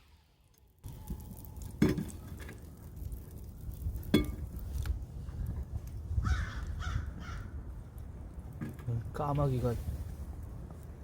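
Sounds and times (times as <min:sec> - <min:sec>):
wind rumbling on microphone: 0:00.8 - 0:11.0.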